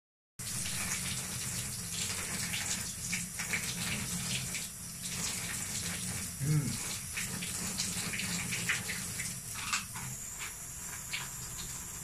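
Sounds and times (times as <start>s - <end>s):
tap water running into bathtub: 0.4s - 12.0s.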